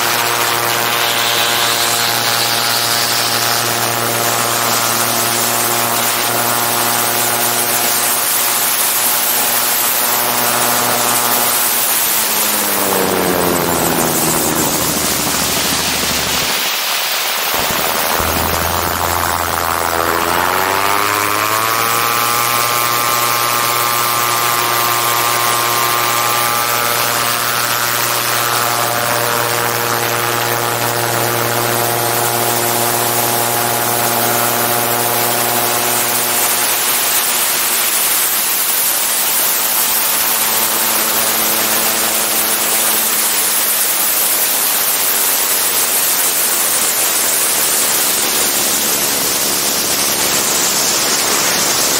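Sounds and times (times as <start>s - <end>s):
propeller engine running: 0.0s - 51.9s.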